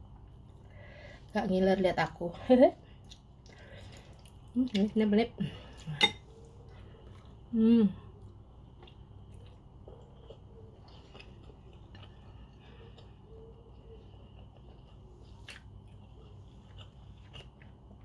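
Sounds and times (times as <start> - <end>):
steady low hum: 0.0 - 18.0
faint close-up chewing: 2.9 - 18.0.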